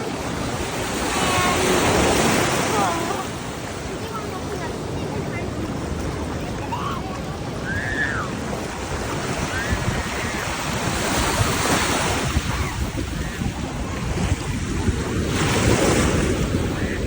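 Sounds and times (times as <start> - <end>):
ocean surf washing up beach: 0.0 - 17.0
wind buffeting microphone: 0.0 - 17.0.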